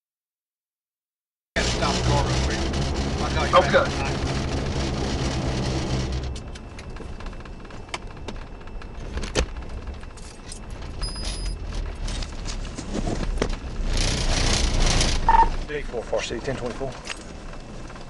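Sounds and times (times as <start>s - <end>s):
vehicle engine and road noise: 1.6s - 18.0s.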